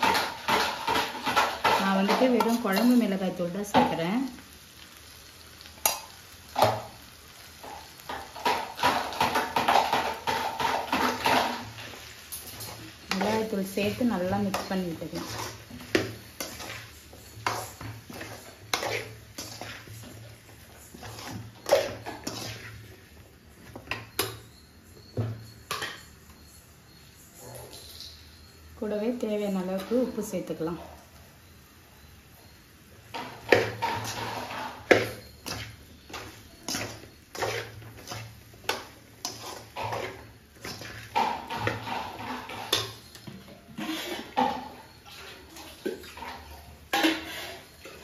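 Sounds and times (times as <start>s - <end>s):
metal spoon scraping a pan: 0.0s - 4.0s, 5.8s - 31.1s, 32.4s - 48.0s.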